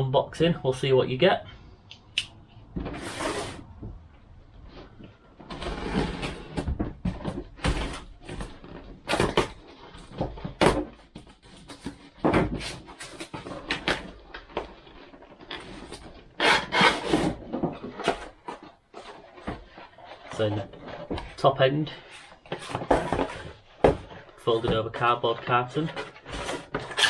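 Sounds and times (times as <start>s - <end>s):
cardboard rustling and scraping: 2.7s - 27.0s.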